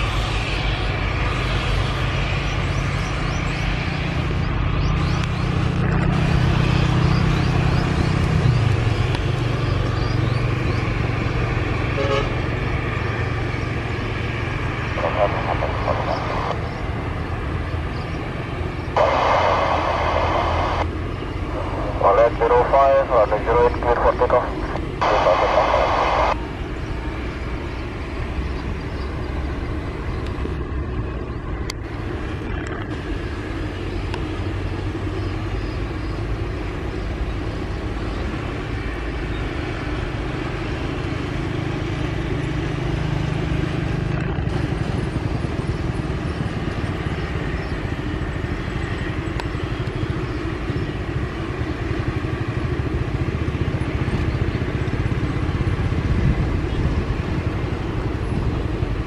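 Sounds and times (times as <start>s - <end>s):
propeller plane engines droning: 0.0s - 59.0s.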